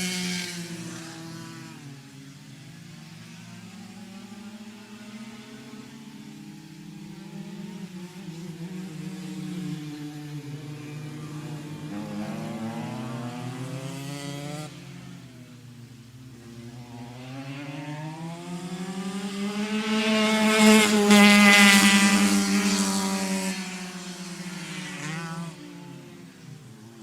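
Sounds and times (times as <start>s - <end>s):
go-kart engine revving: 0.0s - 27.0s.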